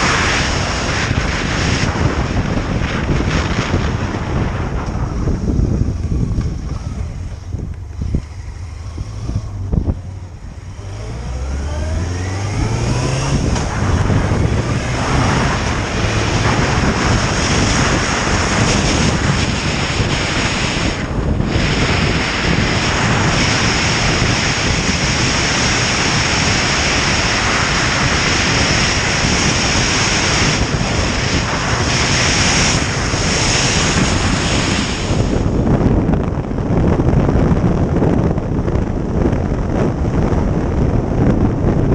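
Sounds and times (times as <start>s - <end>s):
motorcycle engine accelerating: 0.0s - 41.9s
wind rushing over microphone: 0.0s - 41.9s.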